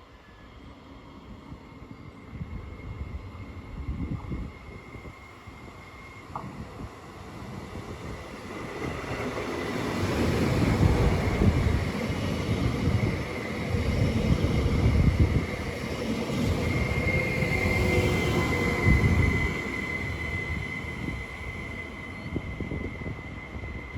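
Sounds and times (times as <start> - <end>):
train rumble and wheel noise: 0.0 - 23.9.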